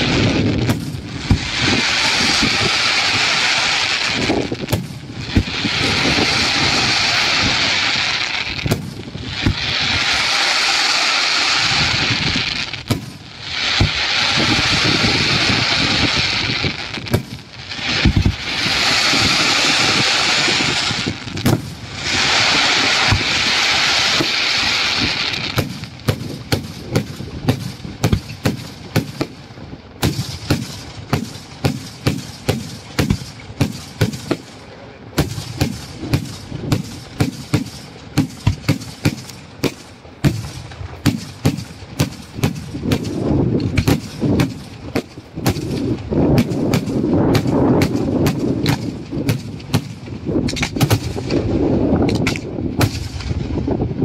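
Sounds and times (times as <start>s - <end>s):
fireworks shells bursting: 0.0s - 51.5s
fireworks hissing rush: 0.0s - 53.8s.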